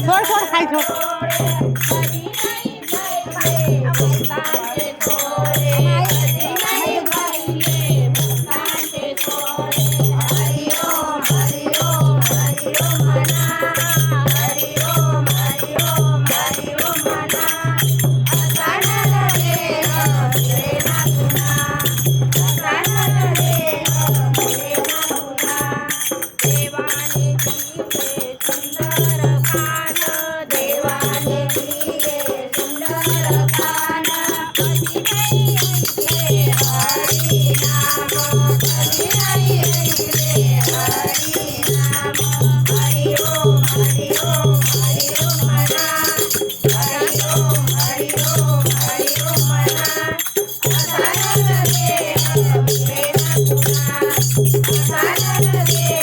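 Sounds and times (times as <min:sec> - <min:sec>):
rattling hand percussion: 0:00.0 - 0:56.0
women singing together: 0:00.0 - 0:56.0.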